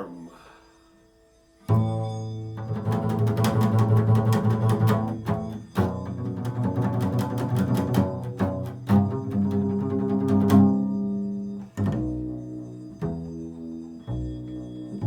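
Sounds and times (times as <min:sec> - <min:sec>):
low bowed string instrument: 0:00.0 - 0:15.0.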